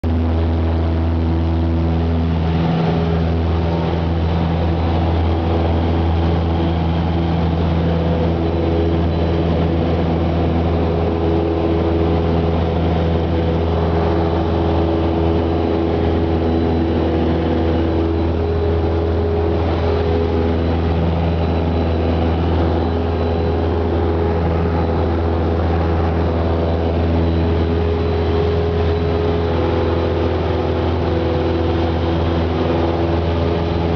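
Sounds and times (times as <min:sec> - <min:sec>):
airplane propeller engine droning: 0:00.0 - 0:33.9.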